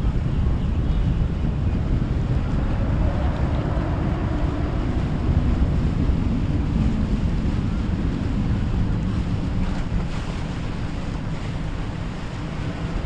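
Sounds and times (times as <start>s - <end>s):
boat motor running: 0.0s - 13.0s
wind buffeting microphone: 0.0s - 13.0s
waves washing: 1.2s - 13.0s.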